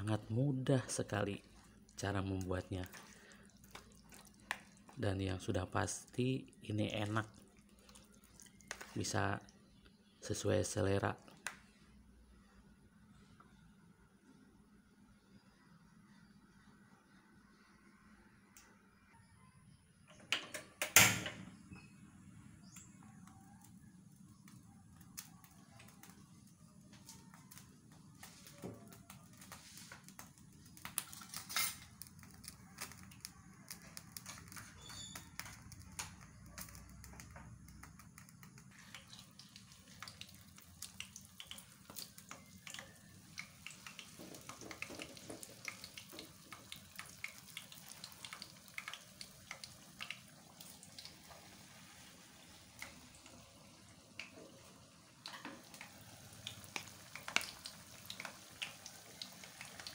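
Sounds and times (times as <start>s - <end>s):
oil crackling and popping: 0.0s - 11.8s, 22.6s - 59.9s
batter frying in hot oil: 0.0s - 12.1s, 21.0s - 59.9s.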